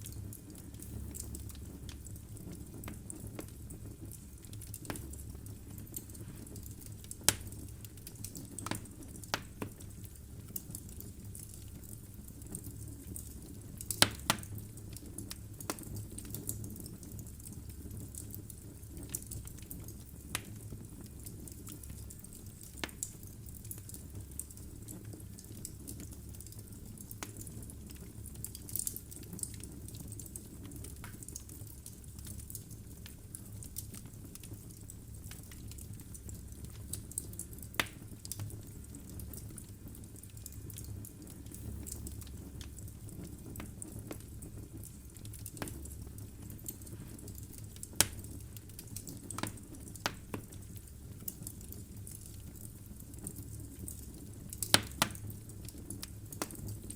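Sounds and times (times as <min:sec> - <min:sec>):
fire rumble and hiss: 0:00.0 - 0:56.9
logs crackling and popping: 0:00.0 - 0:56.9.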